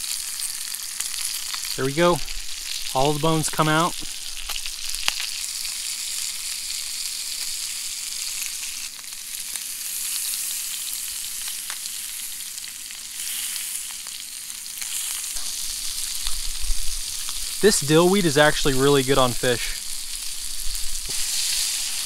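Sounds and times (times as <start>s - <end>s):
fish sizzling in a frying pan: 0.0s - 22.0s.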